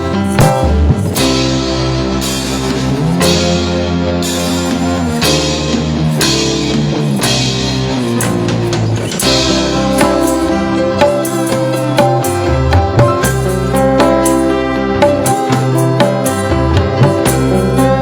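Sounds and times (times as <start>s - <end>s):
drum kit: 0.0s - 18.0s
guitar: 0.0s - 18.0s.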